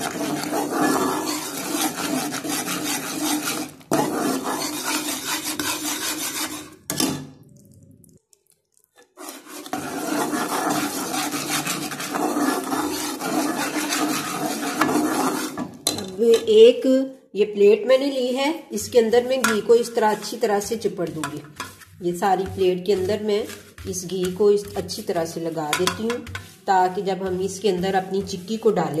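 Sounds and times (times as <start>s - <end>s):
metal spoon scraping a steel pan: 0.0s - 6.9s, 9.2s - 16.6s, 18.8s - 29.0s.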